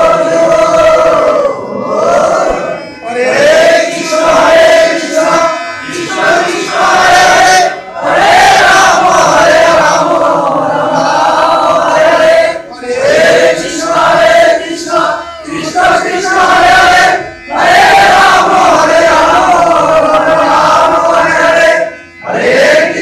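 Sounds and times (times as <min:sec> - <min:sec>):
men chanting together: 0:00.0 - 0:23.0.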